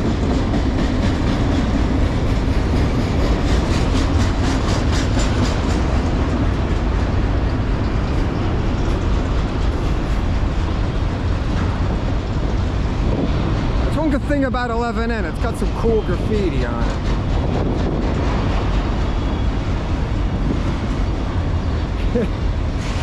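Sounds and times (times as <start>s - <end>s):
clickety-clack over rail joints: 0.0s - 23.0s
train wheels rumbling on rail: 0.0s - 23.0s.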